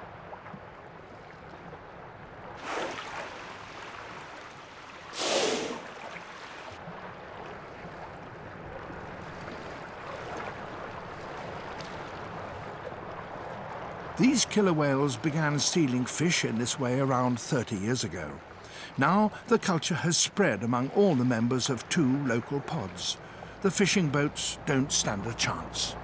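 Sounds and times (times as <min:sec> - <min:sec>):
sea water lapping: 0:00.2 - 0:26.0.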